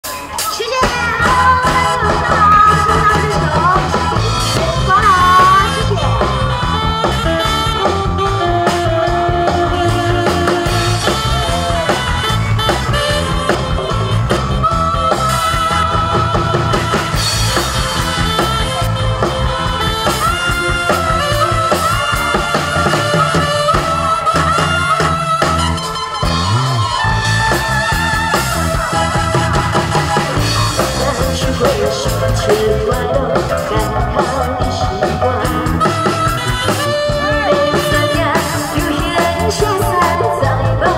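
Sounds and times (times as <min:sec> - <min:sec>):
drum-kit beat: 0:00.0 - 0:40.9
stage band music over pa: 0:00.0 - 0:40.9.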